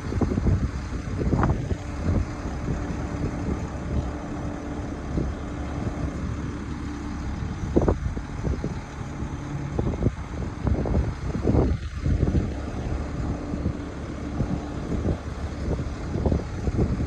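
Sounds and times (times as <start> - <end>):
truck engine running: 0.0 - 17.0
wind buffeting microphone: 0.0 - 17.0.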